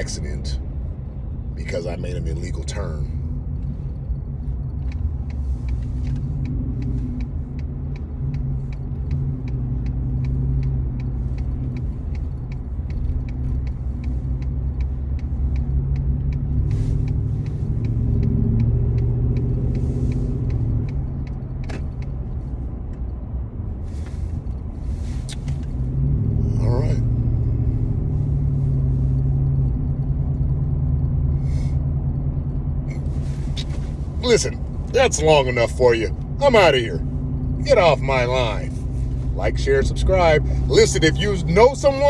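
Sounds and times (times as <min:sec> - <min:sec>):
car road and engine rumble: 0:00.0 - 0:42.0
turn signal ticking: 0:00.0 - 0:42.0.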